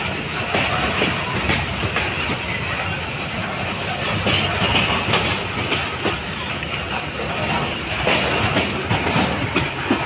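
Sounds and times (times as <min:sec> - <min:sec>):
freight train rolling past: 0:00.0 - 0:10.0
wheels clacking over rail joints: 0:00.0 - 0:10.0.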